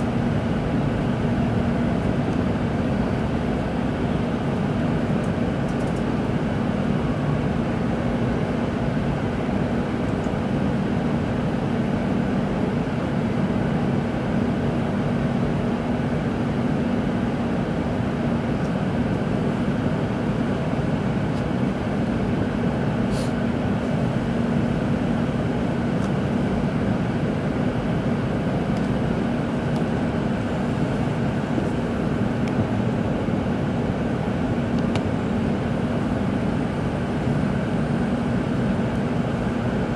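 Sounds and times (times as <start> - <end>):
train interior rushing hum: 0.0 - 39.9.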